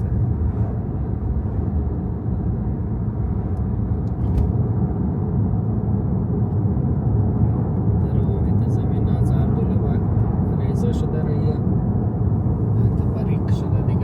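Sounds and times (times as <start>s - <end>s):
car driving on road: 0.0s - 14.0s.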